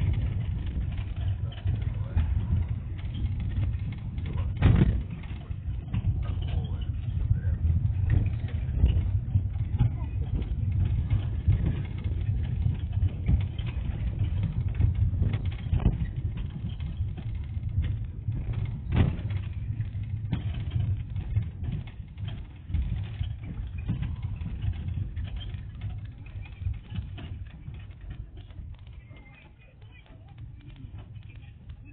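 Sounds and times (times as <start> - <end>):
engine and road rumble: 0.0 - 28.9
knocks and rattles: 0.0 - 31.9.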